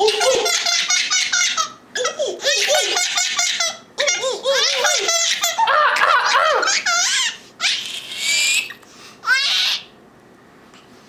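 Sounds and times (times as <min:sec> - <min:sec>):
baby laughing: 0:00.0 - 0:09.9
baby squealing with laughter: 0:00.0 - 0:09.9.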